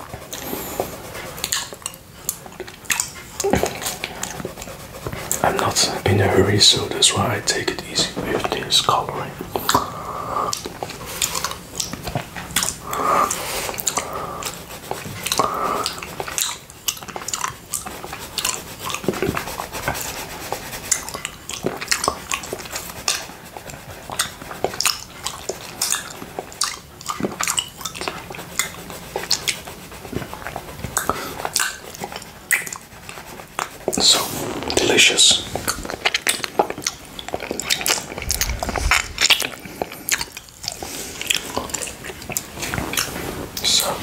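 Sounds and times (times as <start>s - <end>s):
wet tongue licking: 0.0s - 44.0s.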